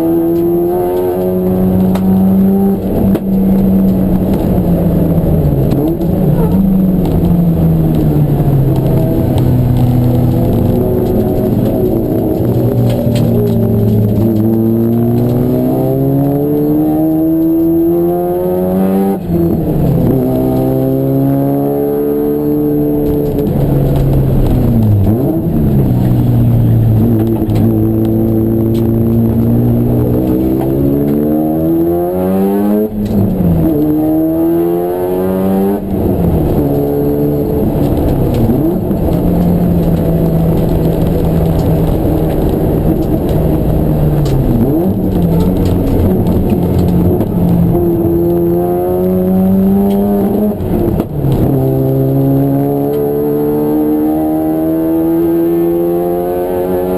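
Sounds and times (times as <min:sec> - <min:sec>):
race car engine accelerating: 0:00.0 - 0:56.9.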